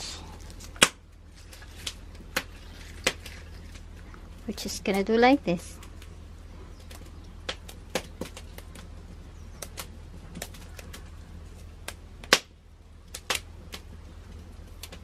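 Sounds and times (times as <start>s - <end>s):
steady low hum: 0.0s - 15.0s
stems snapping: 0.3s - 5.0s, 6.8s - 8.9s, 9.6s - 15.0s.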